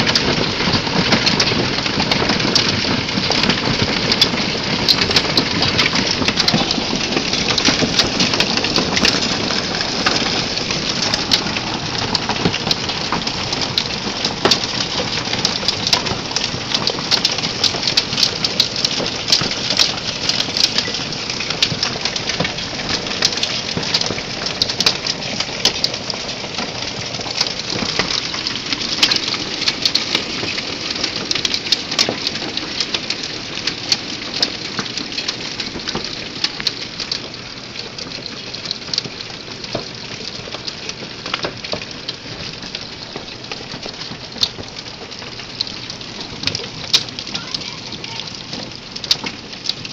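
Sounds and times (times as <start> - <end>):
hailstones clattering: 0.0 - 49.9
rain: 0.0 - 49.9.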